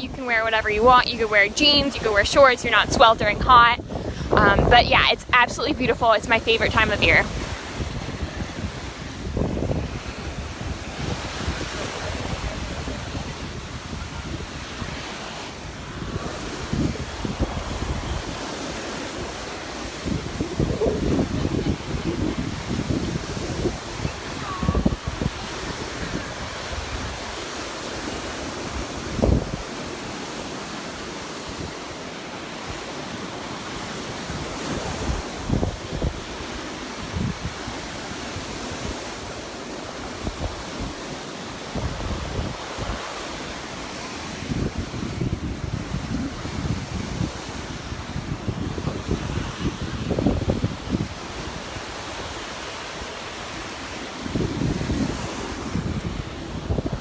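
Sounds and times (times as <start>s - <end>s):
small surf washing up beach: 0.0s - 57.0s
wind rumbling on microphone: 0.0s - 57.0s.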